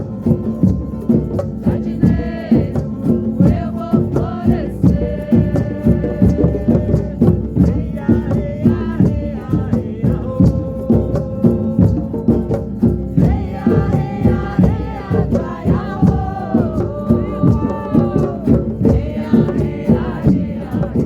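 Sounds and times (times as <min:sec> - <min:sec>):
rattle shaking: 0:00.0 - 0:21.0
steady drum beat: 0:00.0 - 0:21.0
voices chanting: 0:00.0 - 0:21.0.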